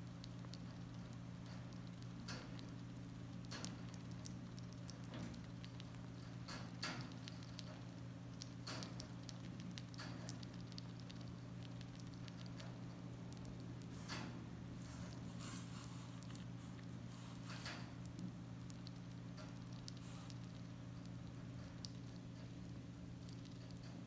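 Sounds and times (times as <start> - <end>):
squirrel chewing fruit: 0.0 - 24.0
steady low hum: 0.0 - 24.0.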